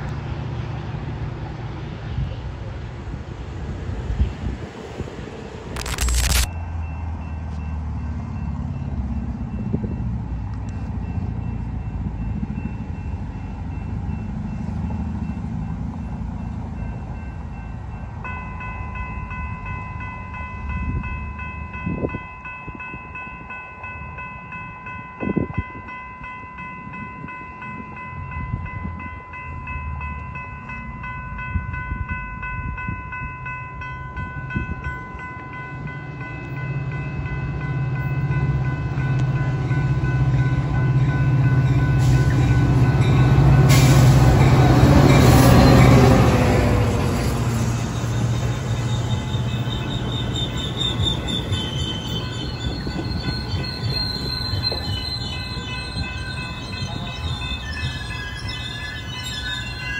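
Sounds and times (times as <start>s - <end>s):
railroad crossing bell ringing: 5.7s - 59.9s.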